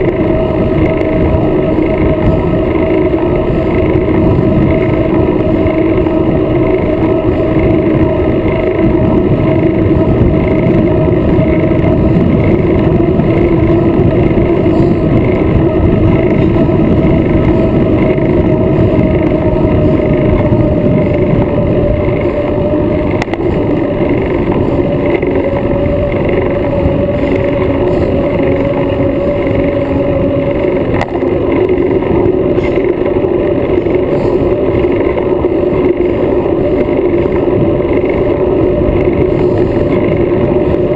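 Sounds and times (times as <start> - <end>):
steady droning hum: 0.0 - 40.9
wind rush on microphone: 0.0 - 40.9.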